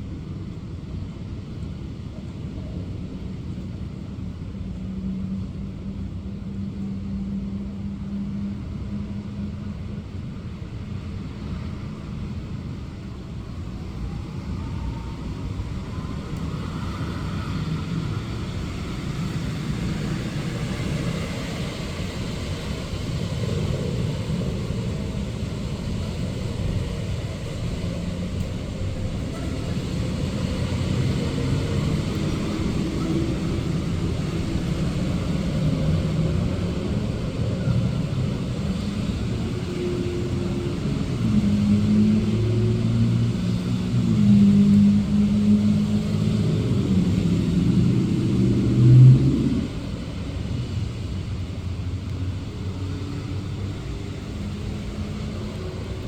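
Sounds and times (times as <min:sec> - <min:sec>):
steady rain: 0:00.0 - 0:56.0
vehicles passing on wet road: 0:01.6 - 0:56.0.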